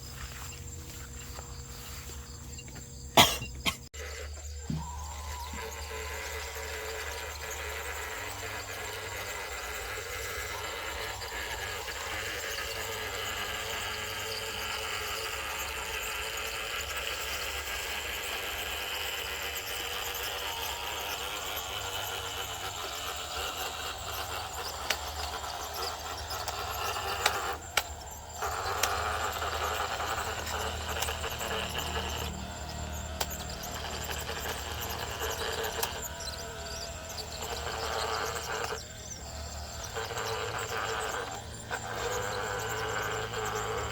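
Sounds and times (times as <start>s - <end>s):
electric motor whining: 0.0s - 43.9s
sharp clicks: 4.6s - 43.9s.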